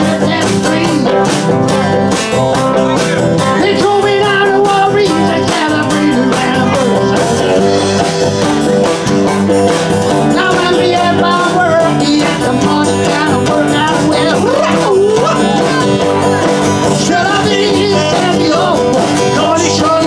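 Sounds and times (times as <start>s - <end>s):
person singing: 0.0s - 8.1s, 10.1s - 20.0s
guitar: 0.0s - 20.0s
steady drum beat: 0.0s - 20.0s.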